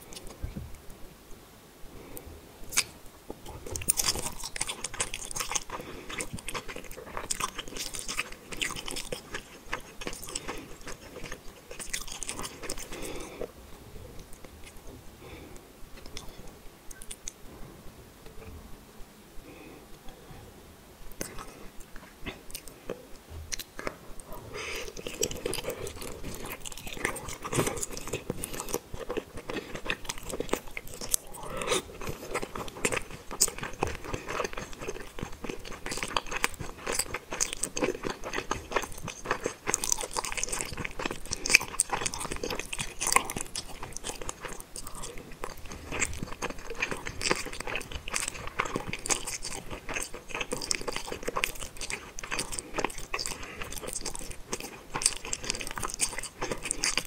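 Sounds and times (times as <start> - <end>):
chewing and mouth sounds: 0.0 - 0.5, 2.7 - 13.5, 14.1 - 14.9, 15.9 - 17.4, 21.1 - 57.0.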